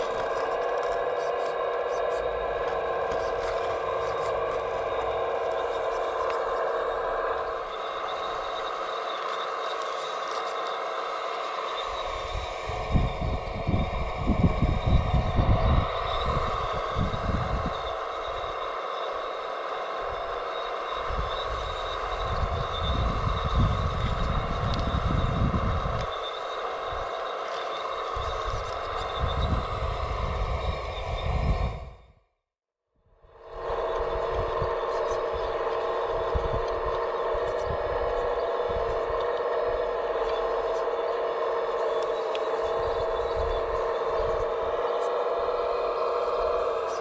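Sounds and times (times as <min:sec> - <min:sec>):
electric motor whine: 0:00.0 - 0:32.2, 0:33.1 - 0:47.0.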